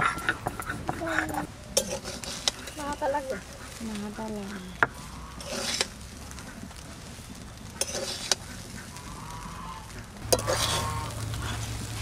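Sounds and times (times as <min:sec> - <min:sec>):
spatula scraping rice in a pan: 0:00.0 - 0:09.4, 0:10.0 - 0:12.0.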